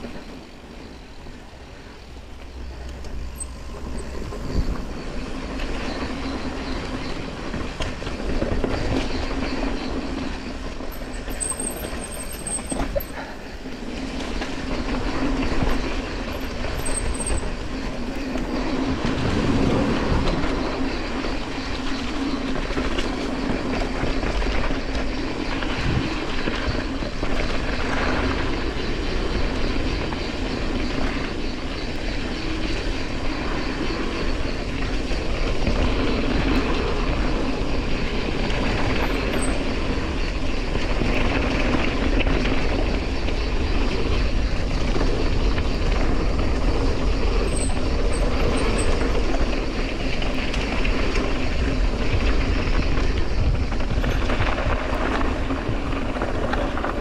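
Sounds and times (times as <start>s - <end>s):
bike rattling: 0.0s - 57.0s
bike tyres on dirt: 0.0s - 57.0s
wind rumble on microphone: 0.0s - 57.0s.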